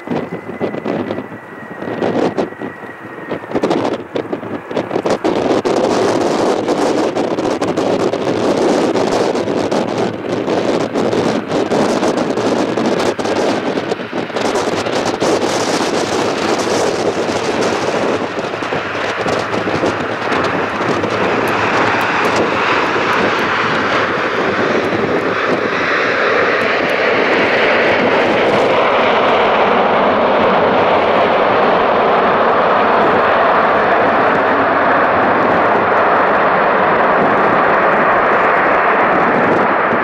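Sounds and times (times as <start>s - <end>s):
jet engines at high thrust: 0.0s - 40.0s.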